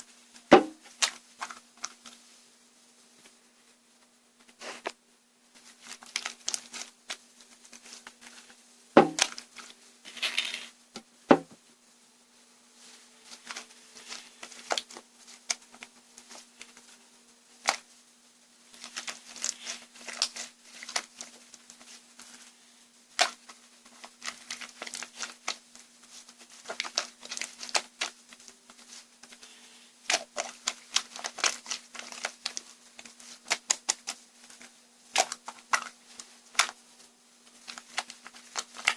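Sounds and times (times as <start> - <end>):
faint steady hum: 0.0 - 38.9
rustling and crinkling: 0.0 - 38.9.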